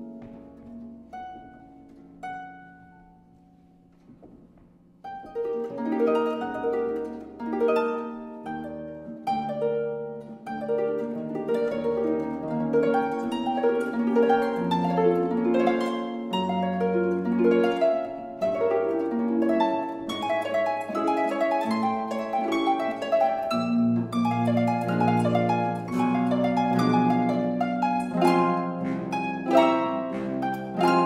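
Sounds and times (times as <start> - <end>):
harp playing: 0.0 - 4.1, 5.0 - 31.0.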